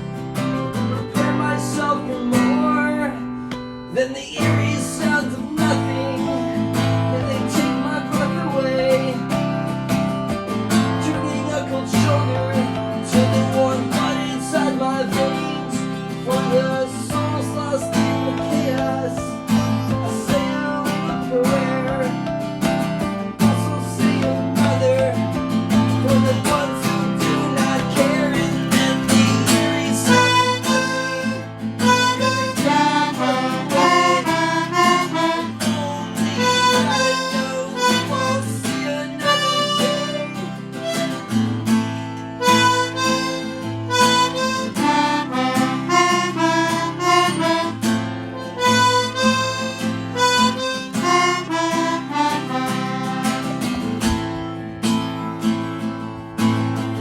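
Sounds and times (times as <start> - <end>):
harmonica melody: 0.0 - 57.0
strummed acoustic guitar: 0.0 - 57.0.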